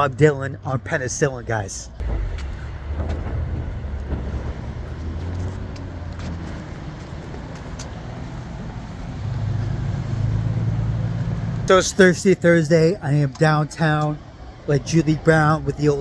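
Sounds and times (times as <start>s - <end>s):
car engines passing: 0.0s - 16.0s
nearer vehicle approaching: 0.0s - 16.0s.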